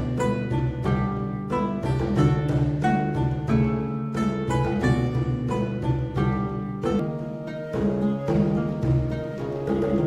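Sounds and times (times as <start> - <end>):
plucked string music: 0.0 - 10.0.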